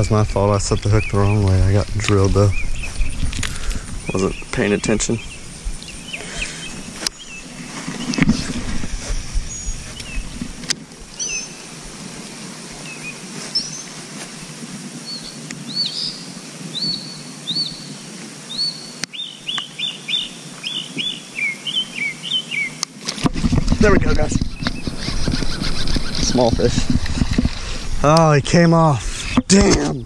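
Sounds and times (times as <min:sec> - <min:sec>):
small birds chirping: 0:00.0 - 0:14.1, 0:15.0 - 0:22.9, 0:23.8 - 0:30.0.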